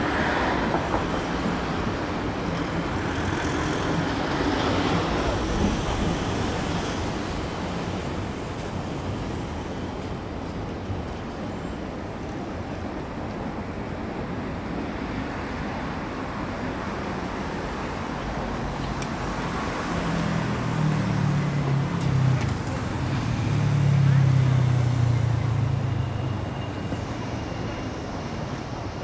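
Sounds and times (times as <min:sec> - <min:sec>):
city road traffic: 0:00.0 - 0:29.0.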